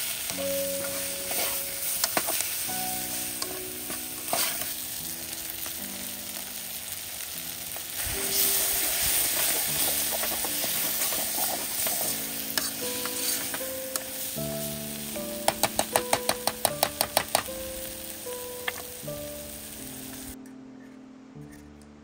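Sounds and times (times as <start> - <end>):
food sizzling in a pot: 0.0 - 20.4
soft background music: 0.0 - 22.0.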